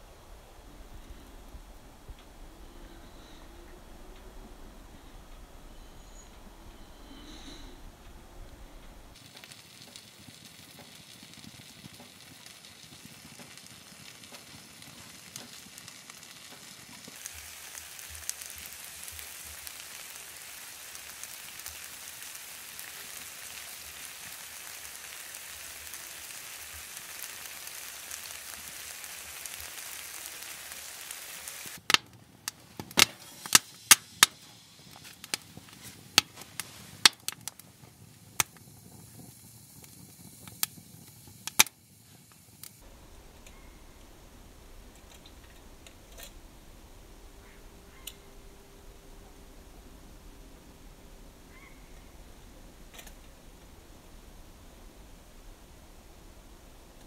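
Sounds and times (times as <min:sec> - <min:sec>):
steady high hiss: 0:00.0 - 0:57.0
wood fire crackling and popping: 0:00.0 - 0:57.0.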